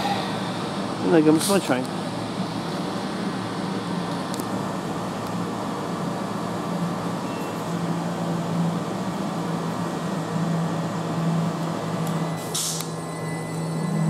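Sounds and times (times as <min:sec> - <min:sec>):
electric train hum: 0:00.0 - 0:14.0
train rumble: 0:00.0 - 0:14.0.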